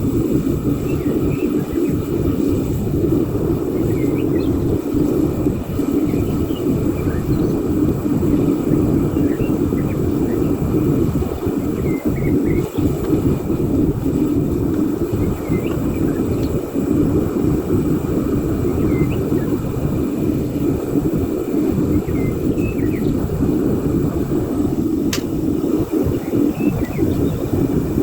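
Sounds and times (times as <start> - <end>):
furnace burner rushing: 0.0 - 28.0.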